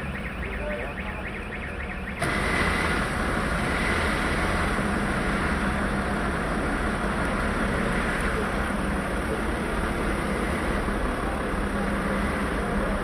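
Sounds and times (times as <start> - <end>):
fire engine rumble and hiss: 2.2 - 13.0.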